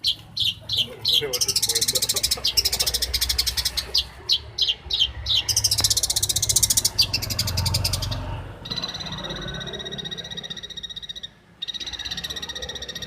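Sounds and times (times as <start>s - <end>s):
shrike chattering song: 0.0s - 13.0s.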